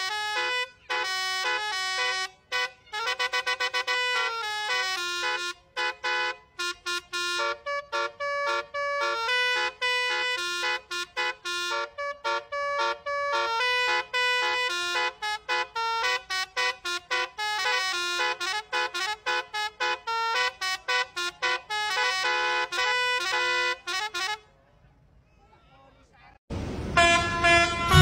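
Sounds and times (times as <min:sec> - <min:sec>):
musical bus horn playing tune: 0:00.0 - 0:24.5, 0:26.8 - 0:28.0.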